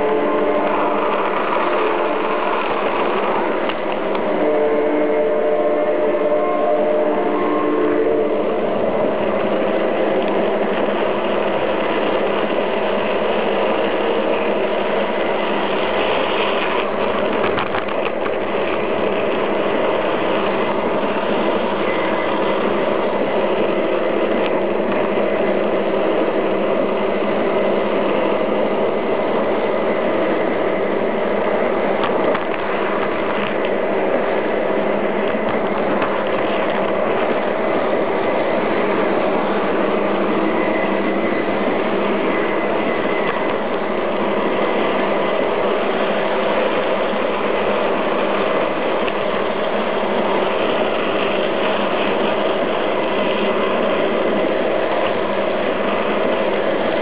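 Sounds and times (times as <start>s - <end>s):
wheels rolling on rails: 0.0s - 4.5s, 8.4s - 57.0s.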